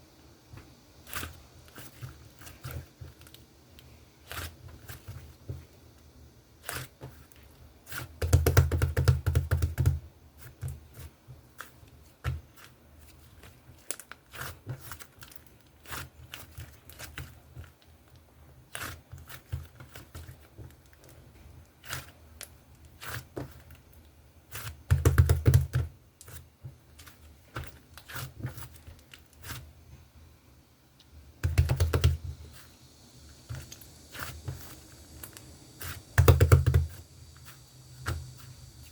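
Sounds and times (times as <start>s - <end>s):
slime squishing by hand: 0.6s - 5.8s, 6.6s - 29.7s, 33.4s - 38.9s.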